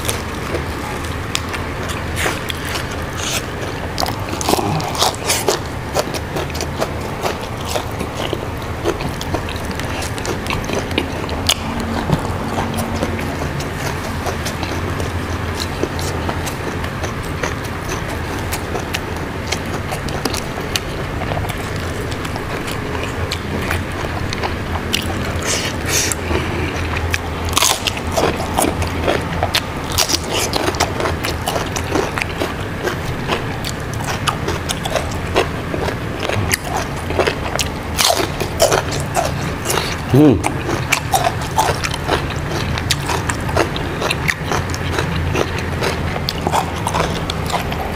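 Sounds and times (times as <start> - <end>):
man chewing crunchy vegetables: 0.0 - 47.9
steady low hum: 0.0 - 47.9.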